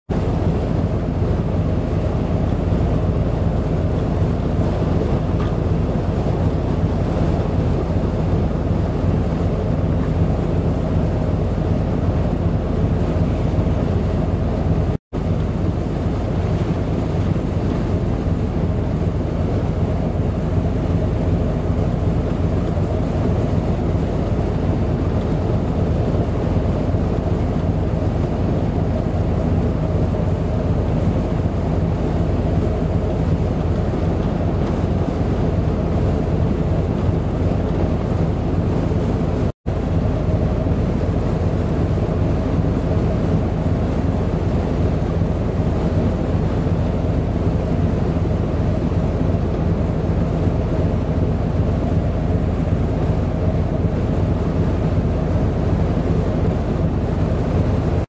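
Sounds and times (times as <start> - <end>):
choppy sea waves washing: 0.1 - 58.0.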